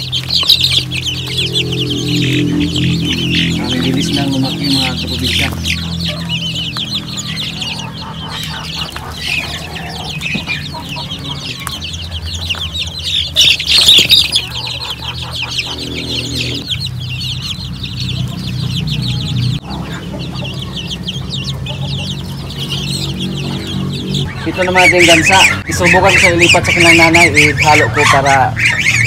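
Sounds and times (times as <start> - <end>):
low steady hum: 0.0 - 25.0
chicks peeping: 0.0 - 29.0.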